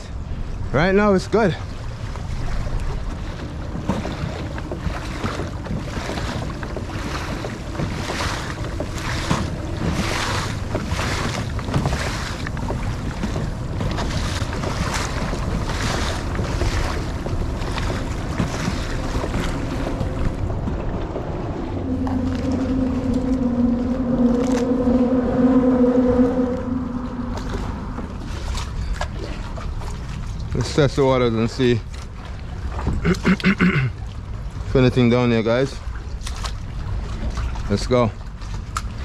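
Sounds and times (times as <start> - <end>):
wind buffeting microphone: 0.0 - 32.8
tidal water moving: 0.0 - 39.0.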